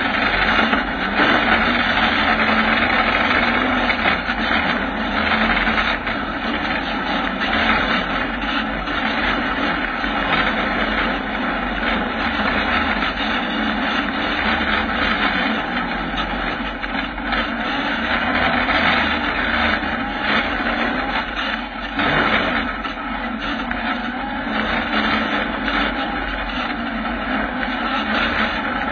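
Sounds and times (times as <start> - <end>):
buggy engine droning: 0.0 - 28.9.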